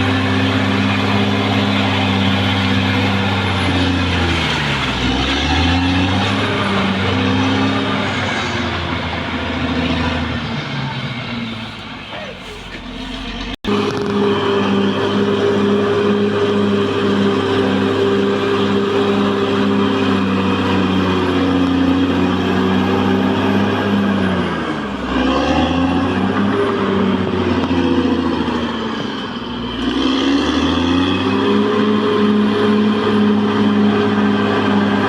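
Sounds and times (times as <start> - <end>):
bulldozer diesel engine: 0.0 - 35.0.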